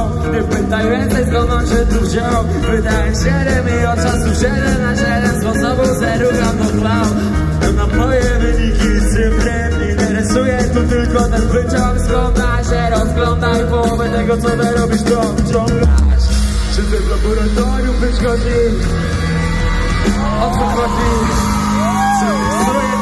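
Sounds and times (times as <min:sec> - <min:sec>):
amplified rapping vocal: 0:00.0 - 0:18.8
backing track with heavy bass: 0:00.0 - 0:23.0.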